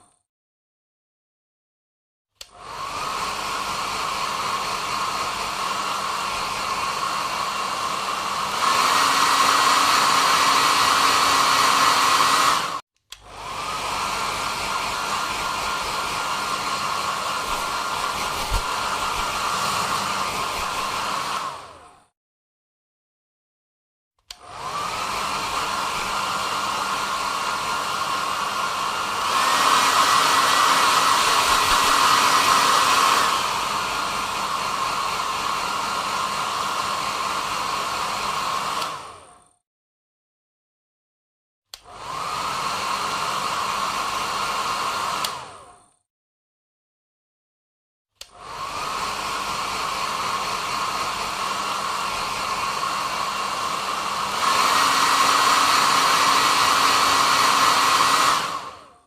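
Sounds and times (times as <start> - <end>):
hair dryer blowing: 2.4 - 22.2, 24.2 - 39.6, 41.7 - 46.0, 48.2 - 59.0.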